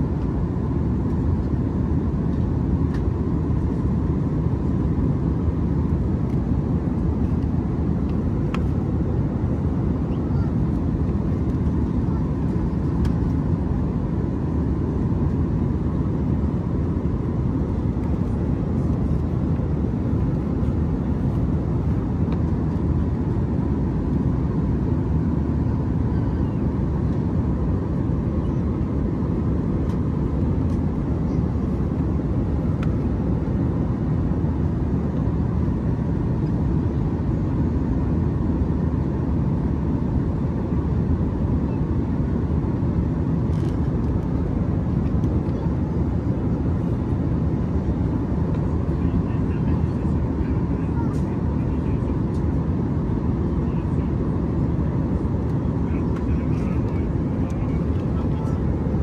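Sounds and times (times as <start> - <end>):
airplane cabin noise: 0.0 - 59.0.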